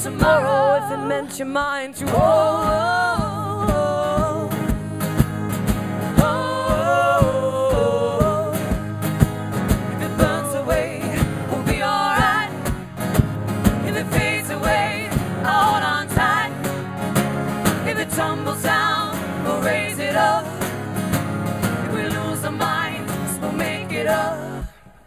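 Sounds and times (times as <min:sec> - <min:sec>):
women singing: 0:00.0 - 0:12.9, 0:13.7 - 0:16.8, 0:17.7 - 0:21.0, 0:21.6 - 0:25.0
acoustic guitars: 0:00.0 - 0:25.0.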